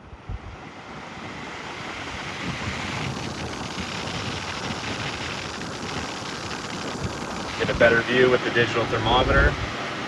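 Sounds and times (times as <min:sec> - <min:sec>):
air blower rushing from vents: 0:00.0 - 0:10.0.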